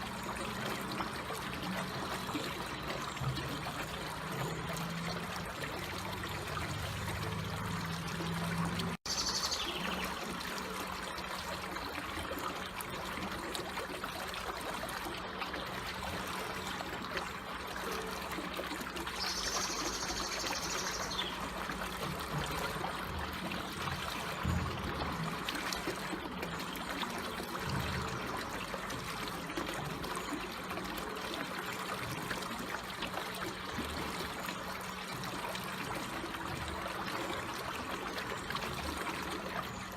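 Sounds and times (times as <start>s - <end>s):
water trickling gently: 0.0s - 39.9s.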